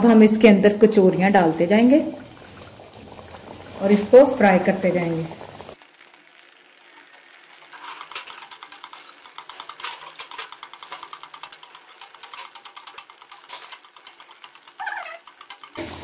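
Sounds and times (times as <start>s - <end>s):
oil crackling and popping: 1.6s - 16.0s.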